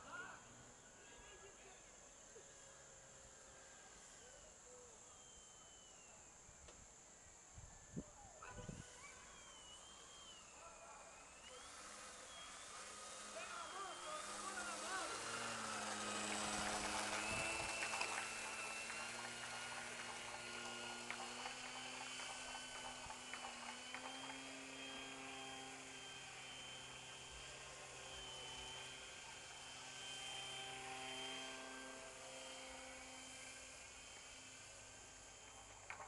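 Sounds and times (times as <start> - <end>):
model plane motor whine: 0.0 - 36.0.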